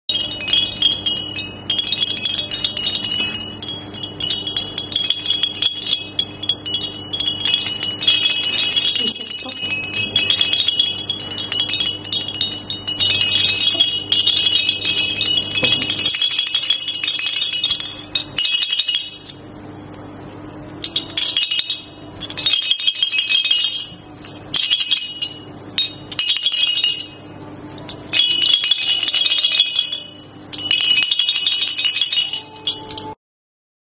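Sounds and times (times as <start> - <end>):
toy chimes tinkling: 0.1 - 19.4, 20.6 - 33.2.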